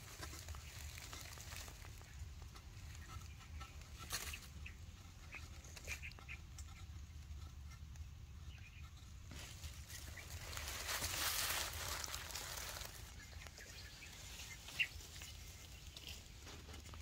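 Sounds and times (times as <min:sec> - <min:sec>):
rustling: 0:00.0 - 0:08.0, 0:08.8 - 0:17.0.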